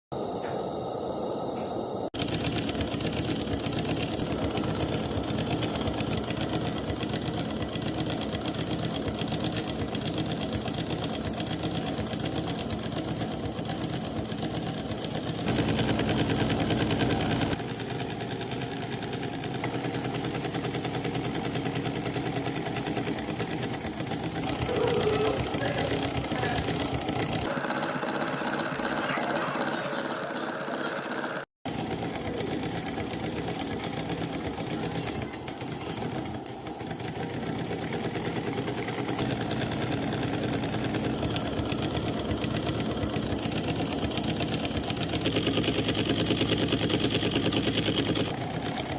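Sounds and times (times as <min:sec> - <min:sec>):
toy steam engine running: 0:02.2 - 0:48.9.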